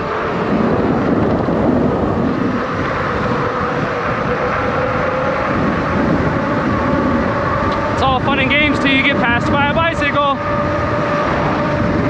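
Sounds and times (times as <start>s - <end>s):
rushing wind: 0.0s - 12.0s.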